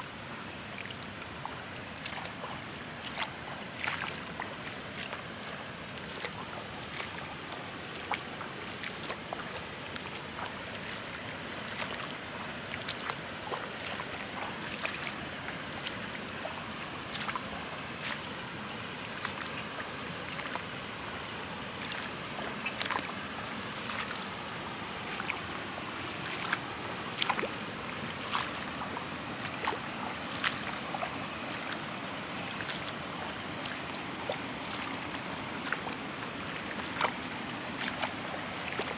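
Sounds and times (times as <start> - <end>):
wading through shallow water: 0.0 - 38.9.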